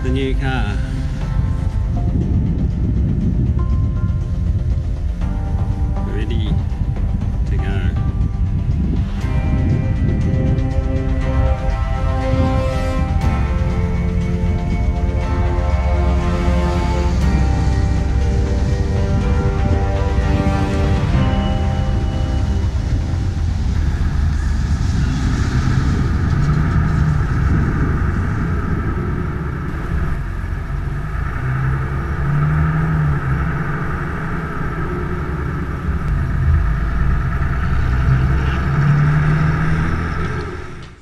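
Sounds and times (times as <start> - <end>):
diesel engine accelerating: 0.0 - 41.0
low wind rumble on microphone: 0.0 - 41.0
road noise: 0.0 - 41.0.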